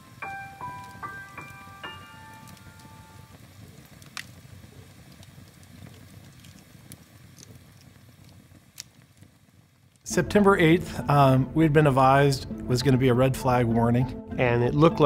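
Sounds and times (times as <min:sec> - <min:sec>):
fire rumbling and crackling: 0:00.0 - 0:13.9.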